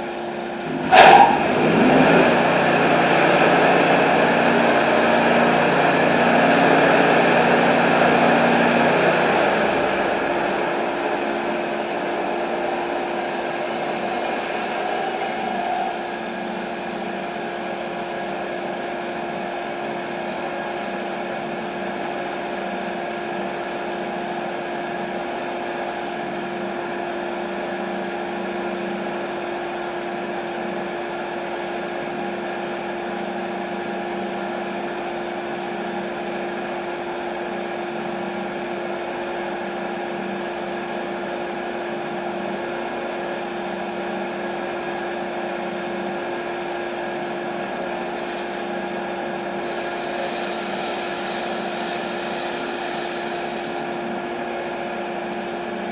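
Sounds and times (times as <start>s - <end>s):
sawmill machine hum: 0.0s - 55.9s.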